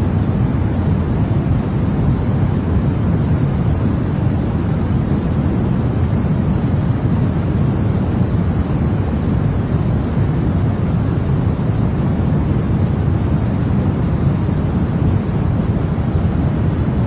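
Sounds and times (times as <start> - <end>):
deep white noise hiss: 0.0 - 17.0.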